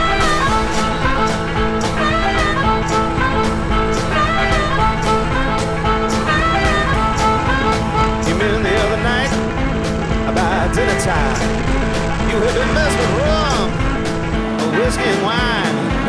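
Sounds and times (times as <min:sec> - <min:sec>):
blues-rock instrumental: 0:00.0 - 0:16.0
steady drum beat: 0:00.0 - 0:16.0.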